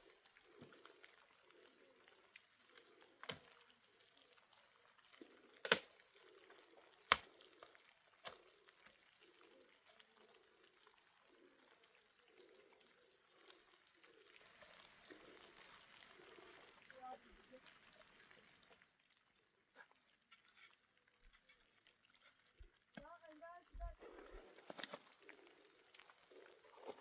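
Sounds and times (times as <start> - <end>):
water trickling and dripping: 0.0 - 27.0.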